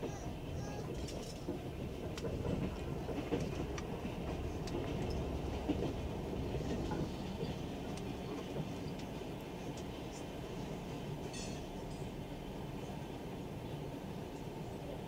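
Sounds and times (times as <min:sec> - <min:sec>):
freight train passing: 0:00.0 - 0:15.0
train rumbling at speed: 0:00.0 - 0:15.0.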